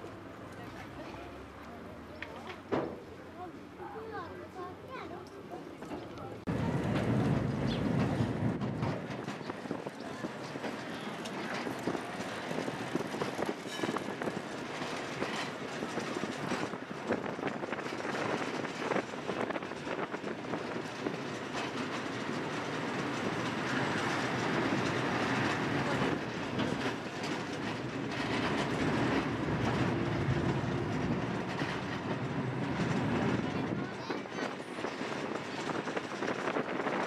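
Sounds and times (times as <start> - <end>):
tram wheels clattering on rails: 5.3 - 37.0.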